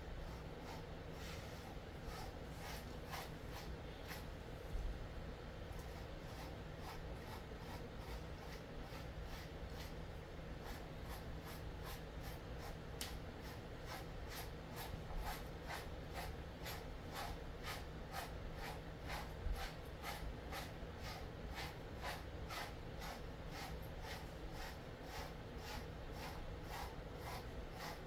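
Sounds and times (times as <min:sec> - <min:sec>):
brush strokes through dog coat: 0:00.2 - 0:04.4, 0:05.8 - 0:10.0, 0:10.6 - 0:28.0.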